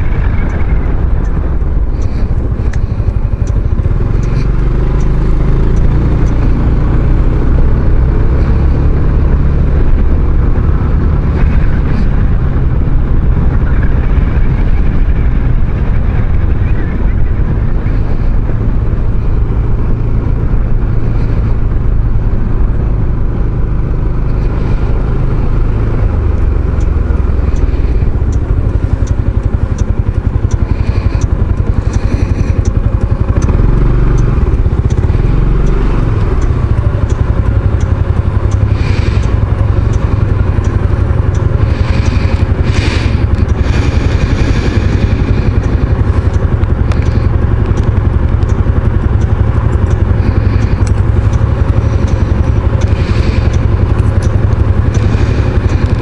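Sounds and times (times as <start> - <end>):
scooter engine running: 0.0 - 56.0
wind and road noise: 0.0 - 56.0.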